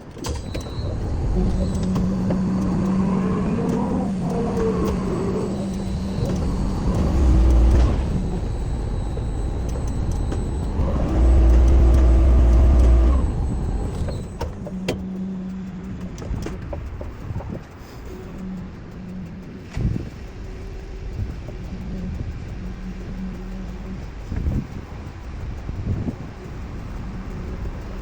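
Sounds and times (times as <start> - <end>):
faint high whine: 0.0 - 28.0
heavy machinery rumbling: 0.0 - 28.0
scattered clicks: 0.0 - 28.0.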